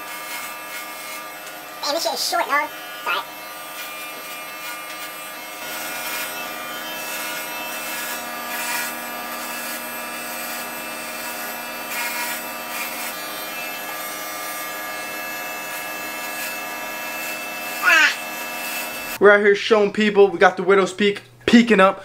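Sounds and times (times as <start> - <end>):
electric hair clippers buzzing: 0.0 - 19.2.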